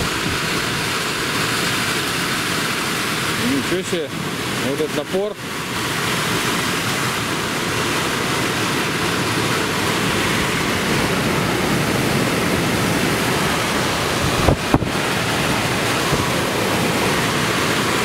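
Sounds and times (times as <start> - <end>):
heater blower fan running: 0.0 - 18.0.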